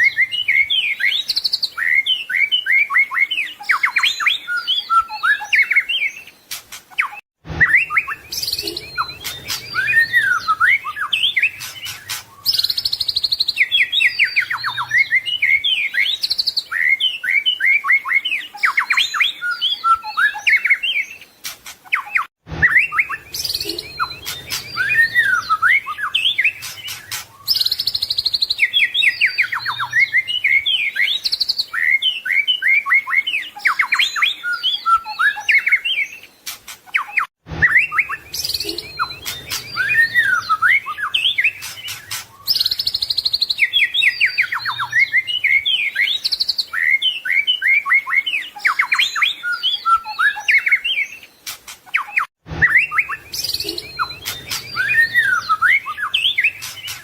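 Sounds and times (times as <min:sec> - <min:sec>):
songbird singing whistles and trills: 0:00.0 - 0:57.0.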